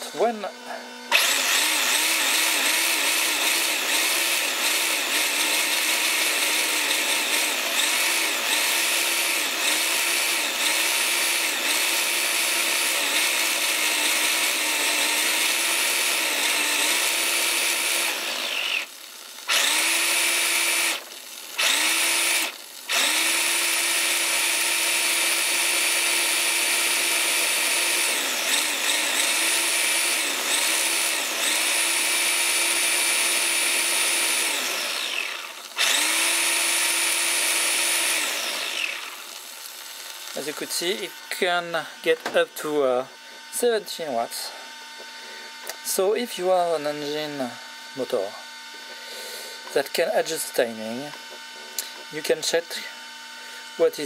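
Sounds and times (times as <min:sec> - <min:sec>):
electric motor whining: 0:00.0 - 0:43.8.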